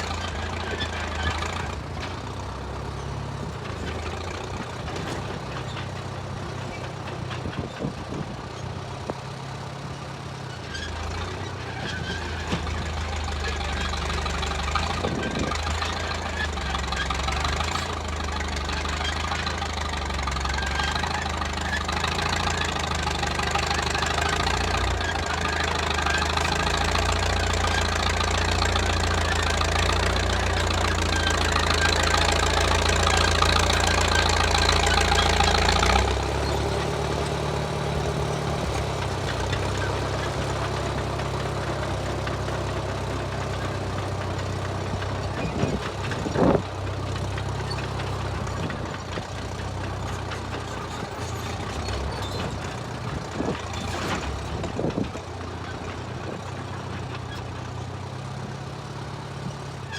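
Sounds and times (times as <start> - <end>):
bulldozer engine running: 0.0 - 59.9.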